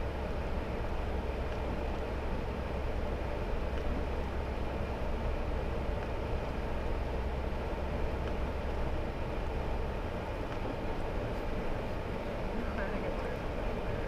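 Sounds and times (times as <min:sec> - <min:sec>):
engine and tyres rumbling: 0:00.0 - 0:14.0.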